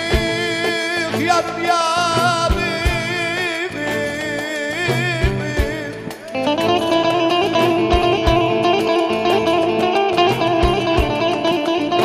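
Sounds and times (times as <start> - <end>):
low drum beats: 0.0 - 11.7
band playing: 0.0 - 12.0
plucked string instrument run: 0.0 - 12.0.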